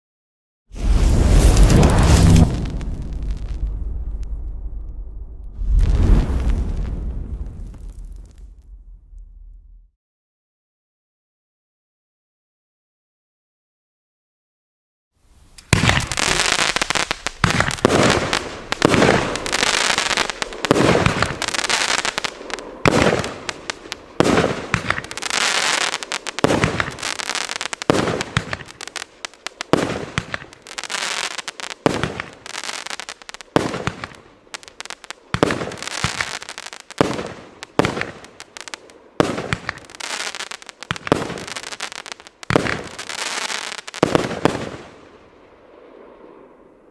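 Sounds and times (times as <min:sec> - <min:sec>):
firework bangs and crackling: 0:00.7 - 0:09.9, 0:15.2 - 0:46.8.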